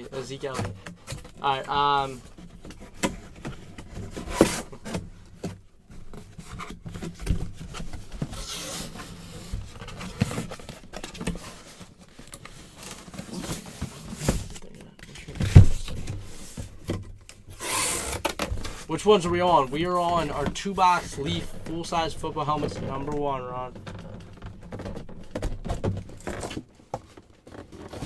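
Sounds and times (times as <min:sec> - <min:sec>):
cardboard boxes being handled: 0:00.0 - 0:28.0.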